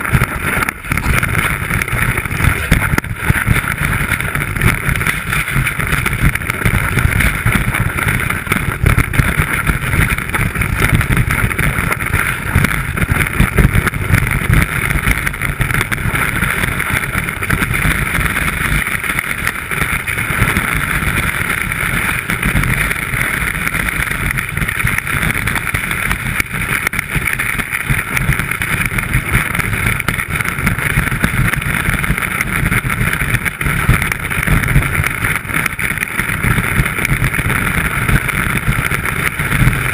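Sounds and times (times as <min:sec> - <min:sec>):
skis running over snow: 0:00.0 - 0:39.9.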